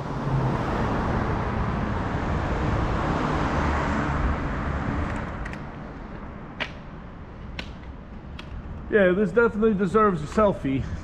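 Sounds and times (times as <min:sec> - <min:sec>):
vehicle passing on street: 0:00.0 - 0:10.3.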